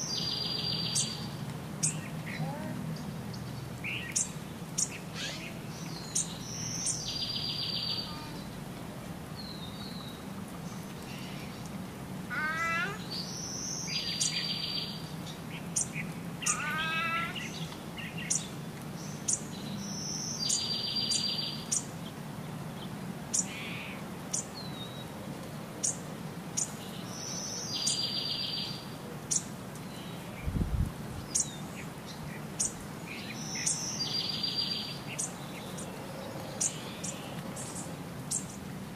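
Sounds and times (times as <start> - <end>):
birds chirping and trilling: 0.0 - 8.6, 12.3 - 22.2, 22.8 - 25.1, 26.6 - 30.6, 31.2 - 38.7.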